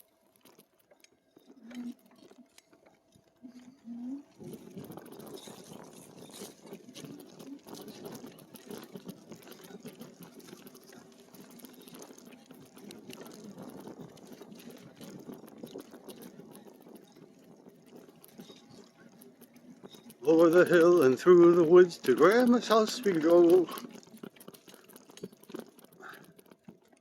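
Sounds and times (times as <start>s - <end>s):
bike tyres crunching on trail: 4.6s - 26.8s.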